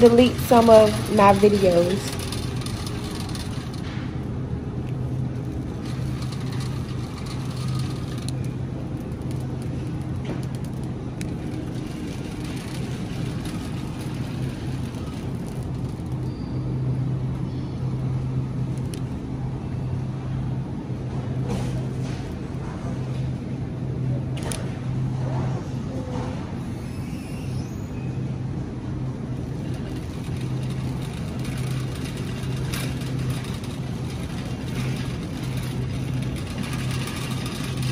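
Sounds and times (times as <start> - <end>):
shopping cart wheels rumbling on tiles: 0.0 - 26.4, 28.4 - 37.9.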